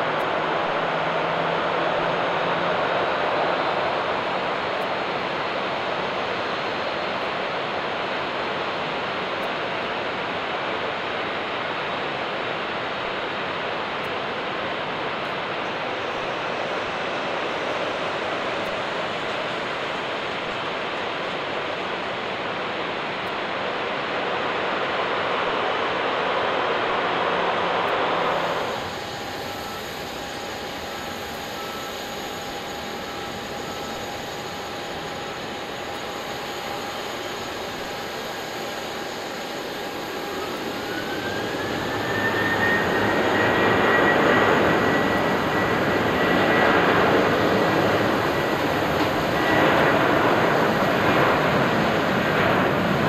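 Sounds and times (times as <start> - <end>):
faint high whine: 0.0 - 53.0
jet engines roaring: 0.0 - 53.0.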